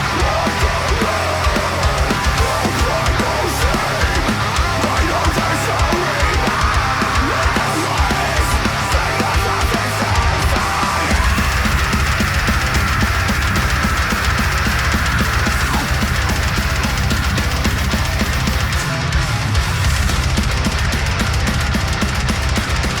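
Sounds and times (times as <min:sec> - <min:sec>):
heavy metal music: 0:00.0 - 0:23.0.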